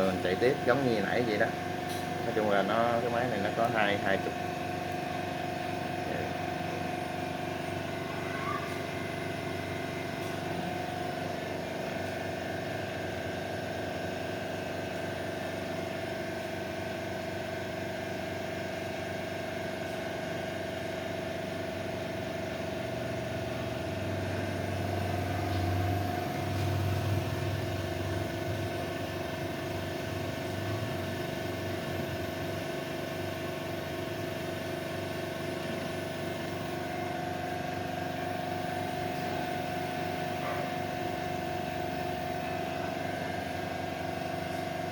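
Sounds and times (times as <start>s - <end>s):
soldering machine humming: 0.0s - 44.9s.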